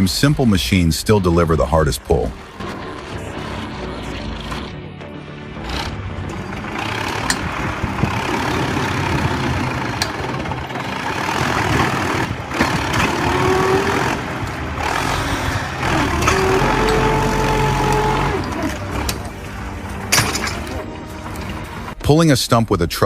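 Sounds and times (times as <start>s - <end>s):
engine working under load: 0.0s - 22.0s.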